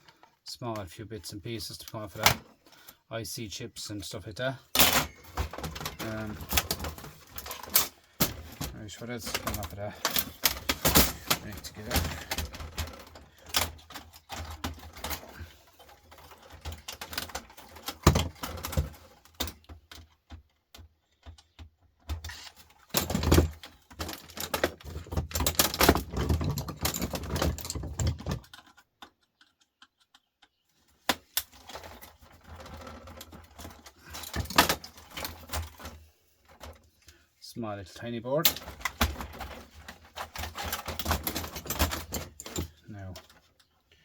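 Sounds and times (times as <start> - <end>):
small parts clicking and rattling: 4.6 - 37.2, 38.3 - 44.0.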